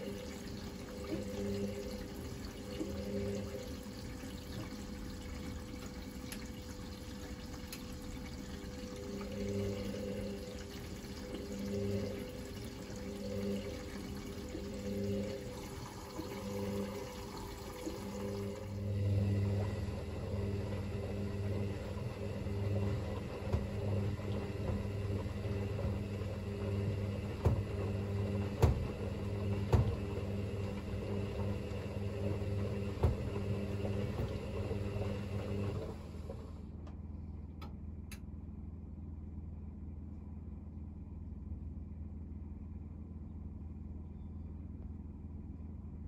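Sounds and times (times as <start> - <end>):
washing machine motor hum: 0.0 - 46.0.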